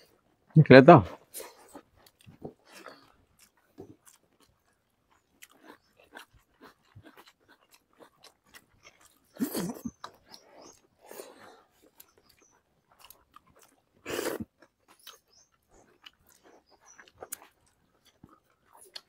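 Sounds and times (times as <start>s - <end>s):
chewing clicks and smacks: 0.0s - 19.0s.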